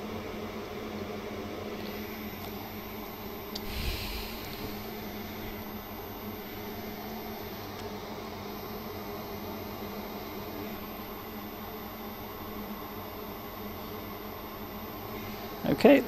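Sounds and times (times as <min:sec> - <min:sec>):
electronic equipment humming: 0:00.0 - 0:16.0.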